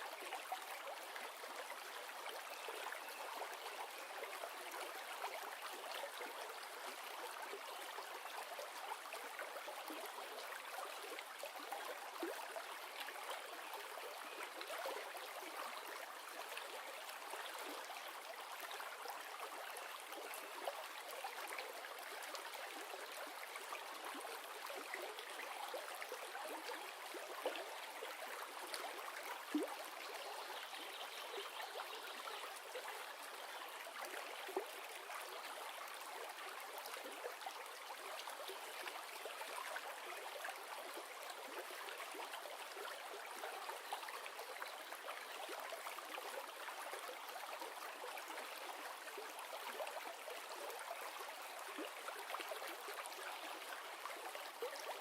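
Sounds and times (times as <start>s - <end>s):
small splashes and trickles: 0.0s - 55.0s.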